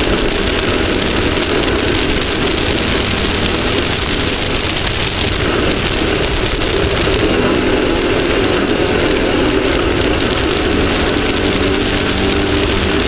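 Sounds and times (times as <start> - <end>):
race vehicle engine running: 0.0 - 13.0
wind and terrain noise: 0.0 - 13.0.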